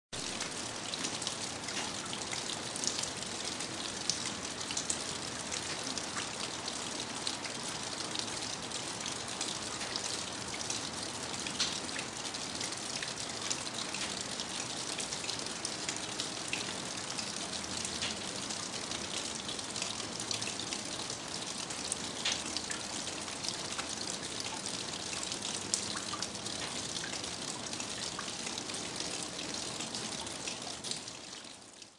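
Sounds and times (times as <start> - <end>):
steady rain falling: 0.2 - 31.9.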